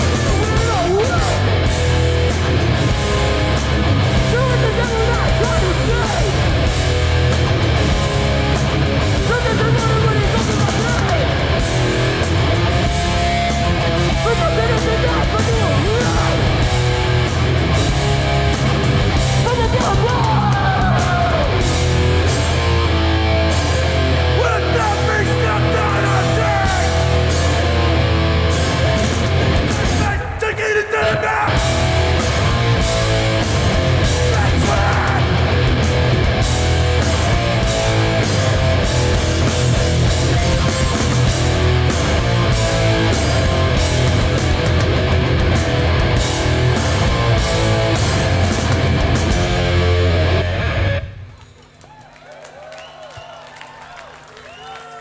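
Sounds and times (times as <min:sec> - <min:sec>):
punk band playing live: 0:00.0 - 0:51.3.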